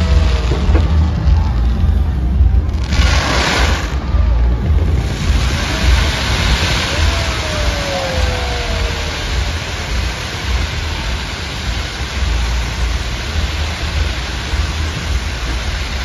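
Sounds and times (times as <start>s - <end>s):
fireworks booming: 0.0s - 16.0s
hissing crackling firework burst: 0.0s - 16.0s.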